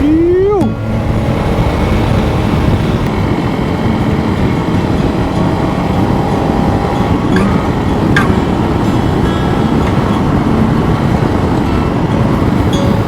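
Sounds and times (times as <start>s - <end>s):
motorcycle engine running: 0.0s - 13.0s
wind and tyre noise: 0.0s - 13.0s.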